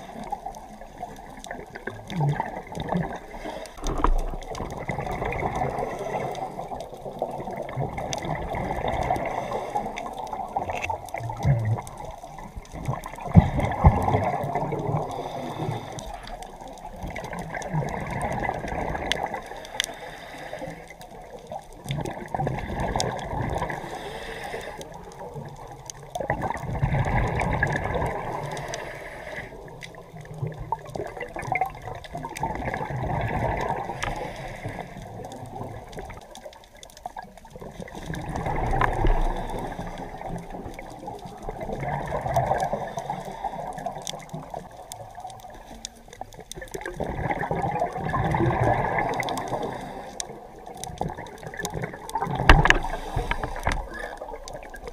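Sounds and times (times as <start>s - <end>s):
regulator bubbles gurgling underwater: 0.0s - 54.9s.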